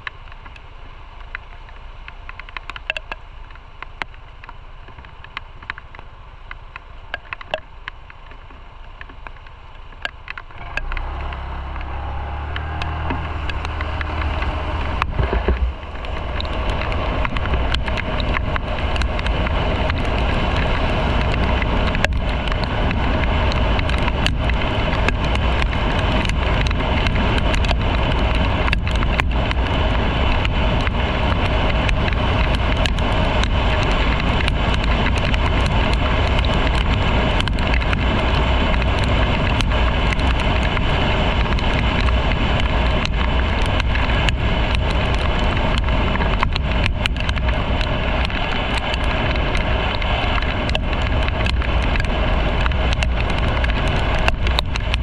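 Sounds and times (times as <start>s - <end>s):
faint clicks: 0.0s - 55.0s
motorcycle engine running: 0.0s - 55.0s
wind rush and road noise: 0.0s - 55.0s.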